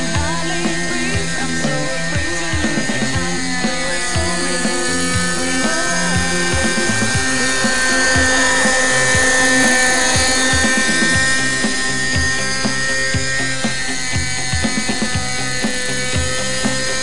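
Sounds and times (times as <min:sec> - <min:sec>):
background music with a beat: 0:00.0 - 0:17.0
model helicopter engine whine: 0:00.0 - 0:17.0.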